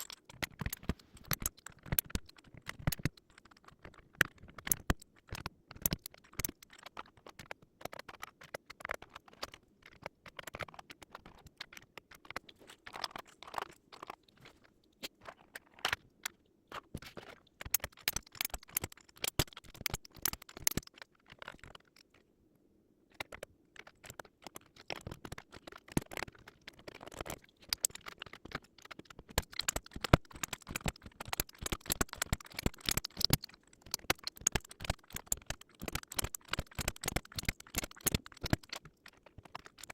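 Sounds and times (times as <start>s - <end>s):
keyboard parts clicking and tapping: 0.0s - 22.3s, 23.1s - 39.9s.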